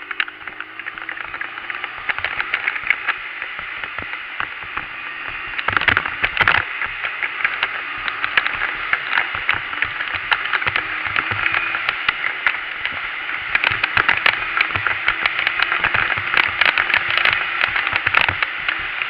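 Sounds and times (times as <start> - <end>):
dirt bike engine running: 0.0 - 19.0
rushing noise with crackles: 0.0 - 19.0.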